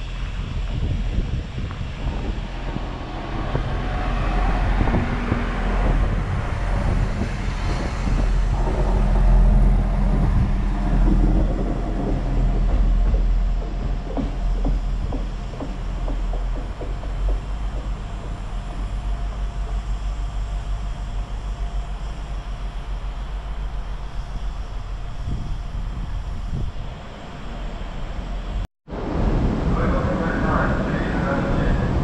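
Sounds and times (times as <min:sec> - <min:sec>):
diesel engine running: 0:00.0 - 0:28.6
wheels rumbling on rails: 0:00.0 - 0:32.0.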